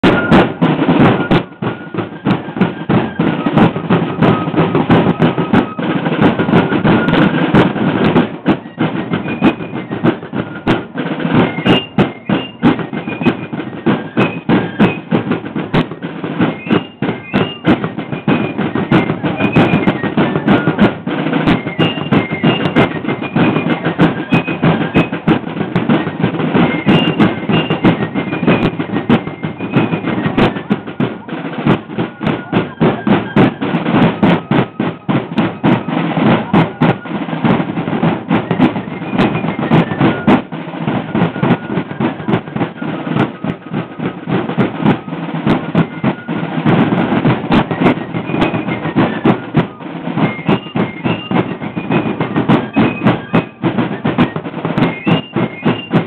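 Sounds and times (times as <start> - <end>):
field drums playing cadence: 0.0 - 56.0.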